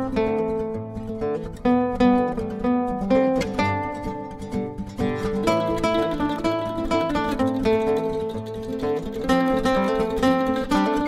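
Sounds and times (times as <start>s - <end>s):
plucked acoustic guitar: 0.0s - 11.0s.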